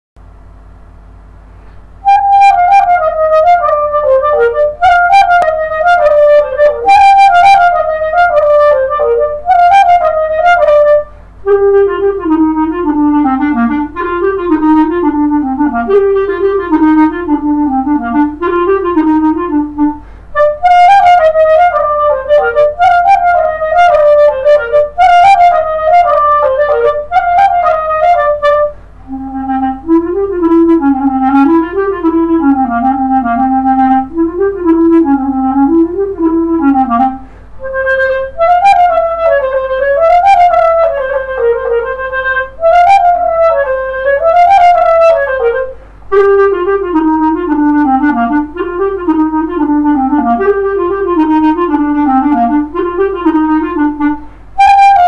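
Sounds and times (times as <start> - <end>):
solo clarinet melody: 1.8 - 55.0.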